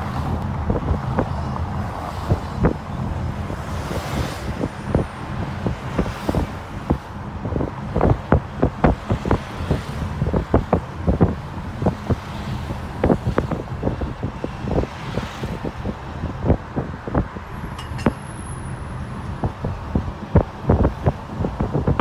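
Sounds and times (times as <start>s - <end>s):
car road rumble: 0.0s - 22.0s
wind buffeting microphone: 0.0s - 22.0s.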